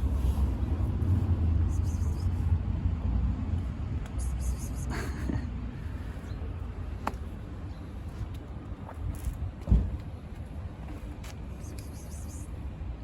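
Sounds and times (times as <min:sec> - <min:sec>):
vehicle traffic rumble: 0:00.0 - 0:13.0.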